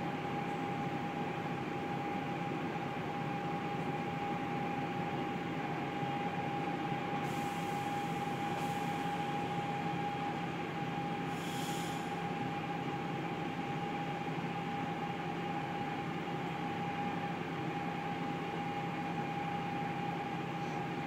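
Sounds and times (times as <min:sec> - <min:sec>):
bus diesel engine idling: 0:00.1 - 0:21.0.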